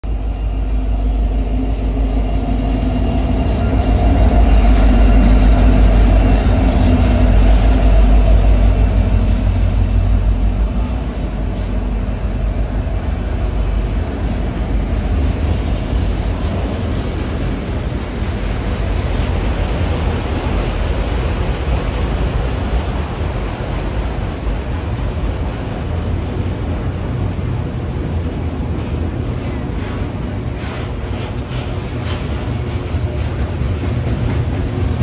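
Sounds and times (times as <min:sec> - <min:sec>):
diesel locomotives droning: 0:00.0 - 0:35.0
train wheels clattering on rails: 0:00.1 - 0:35.0.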